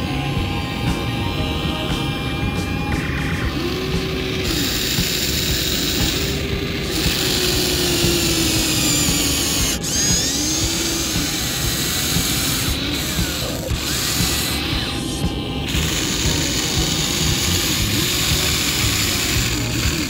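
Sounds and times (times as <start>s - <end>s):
toy motors and gears whirring: 0.0s - 20.0s.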